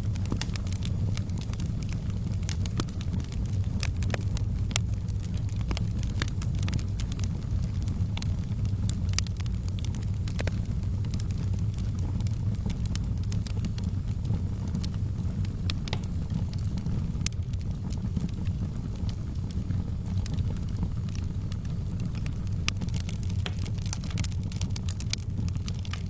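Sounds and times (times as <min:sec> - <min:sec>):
burning logs crackling and popping: 0:00.0 - 0:26.0
fire flames rumbling: 0:00.0 - 0:26.0.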